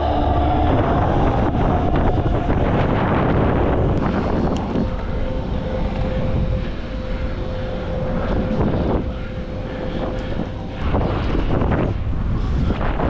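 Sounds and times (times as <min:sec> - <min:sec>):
faint steady hum: 0:00.0 - 0:13.0
wind rushing over microphone: 0:00.0 - 0:13.0.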